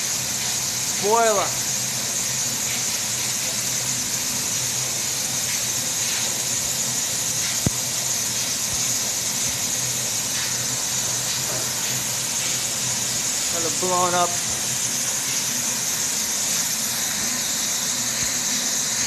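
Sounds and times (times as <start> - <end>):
machinery room hiss and hum: 0.0 - 19.0.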